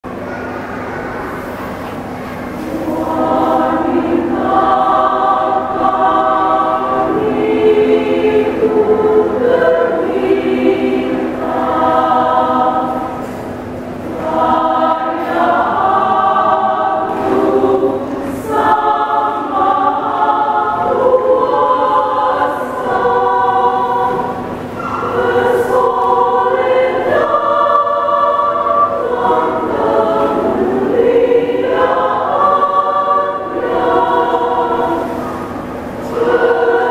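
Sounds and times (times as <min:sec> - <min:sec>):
women's choir singing a hymn: 0:01.4 - 0:36.9.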